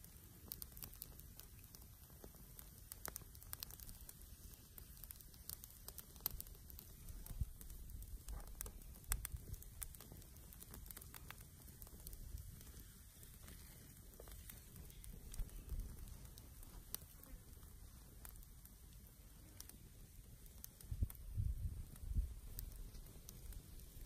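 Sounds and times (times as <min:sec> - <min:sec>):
twig fire crackling: 0:00.0 - 0:24.0
sharp pops and clicks: 0:00.4 - 0:18.5, 0:20.4 - 0:24.0.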